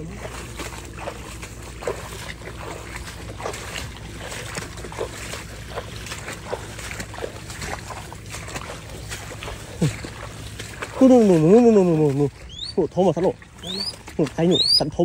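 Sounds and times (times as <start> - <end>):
footsteps squelching in mud: 0.0 - 15.0.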